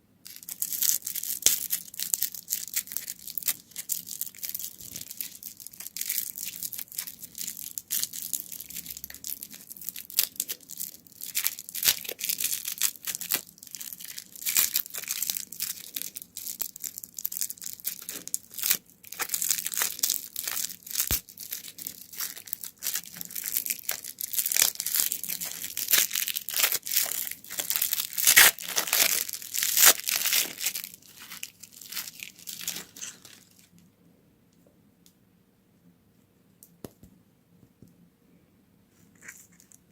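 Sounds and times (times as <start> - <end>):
candy wrappers crinkling and tearing: 0.3 - 33.8.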